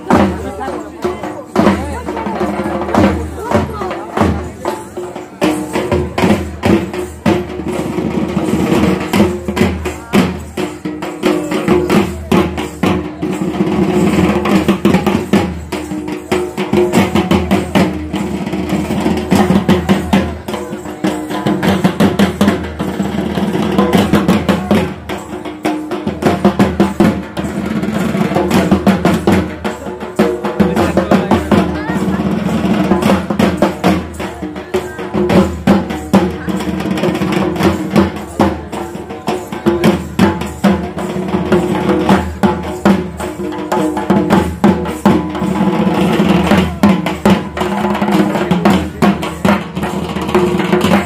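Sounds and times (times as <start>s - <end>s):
fast drumming: 0.0s - 51.0s.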